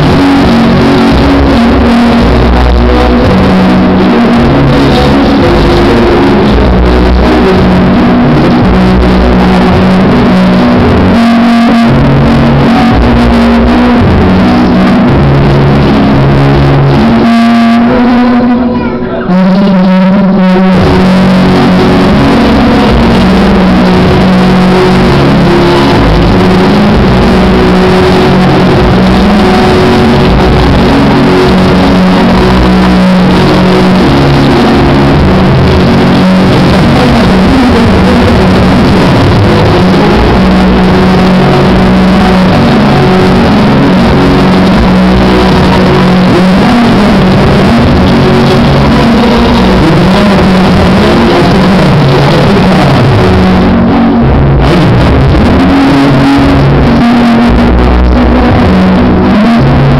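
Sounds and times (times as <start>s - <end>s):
loud music over sound system: 0.0s - 59.9s.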